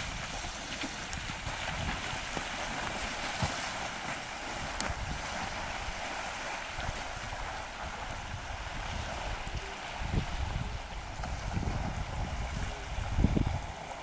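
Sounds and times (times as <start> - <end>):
water splashing on rocky shore: 0.0 - 14.0
wind buffeting microphone: 0.0 - 14.0.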